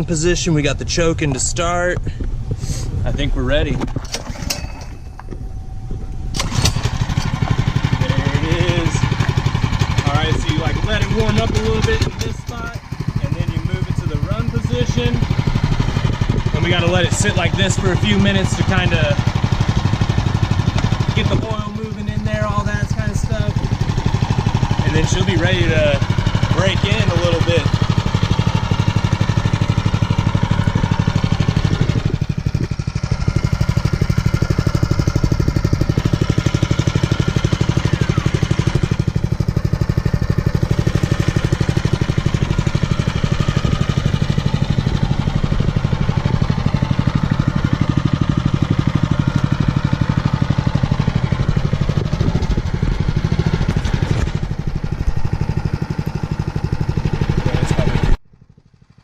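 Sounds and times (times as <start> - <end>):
minibike engine idling: 4.0 - 59.0.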